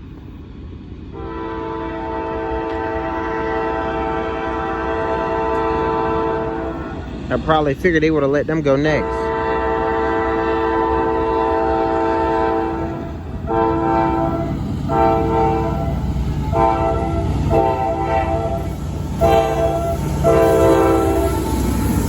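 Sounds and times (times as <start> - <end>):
train rumbling: 0.0 - 22.0
locomotive air horn blasts: 1.2 - 7.1, 8.9 - 22.0.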